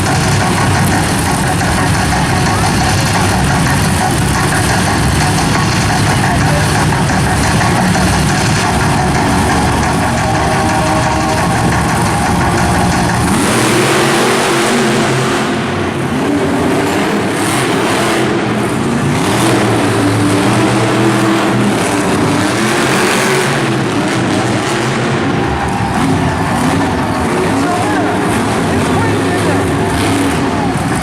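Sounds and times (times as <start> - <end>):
monster truck engines revving: 0.0 - 31.0.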